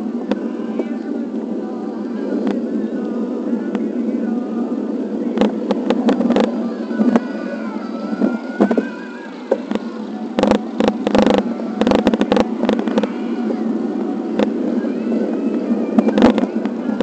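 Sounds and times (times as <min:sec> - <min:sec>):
bike road rumble: 0:00.0 - 0:17.0.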